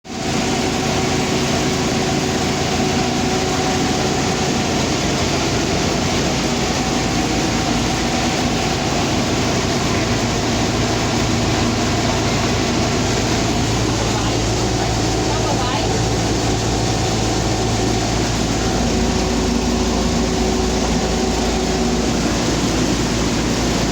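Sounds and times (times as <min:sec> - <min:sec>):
heavy machinery drone: 0:00.1 - 0:23.9.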